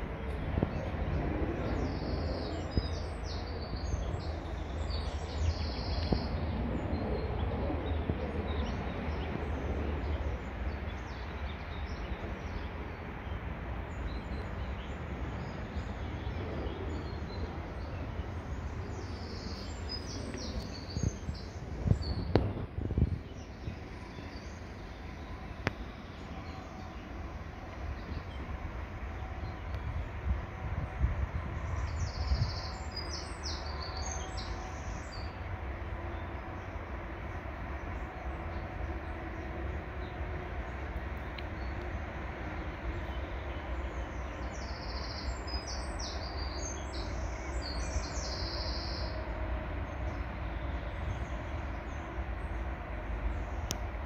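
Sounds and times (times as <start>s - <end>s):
songbirds chirping: 0.0s - 54.0s
steady low rumble: 0.0s - 54.0s.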